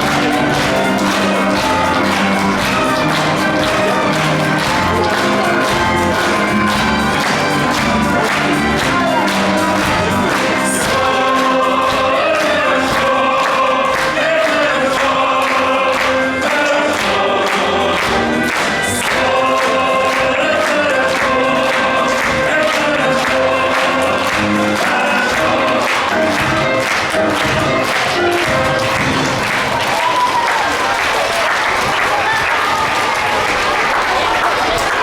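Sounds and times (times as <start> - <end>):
live orchestra accompaniment: 0.0 - 30.6.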